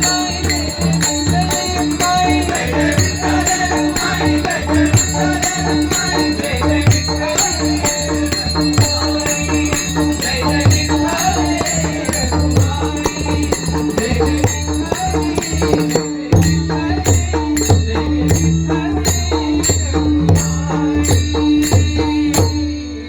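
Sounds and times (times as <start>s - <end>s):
jingling percussion: 0.0s - 23.0s.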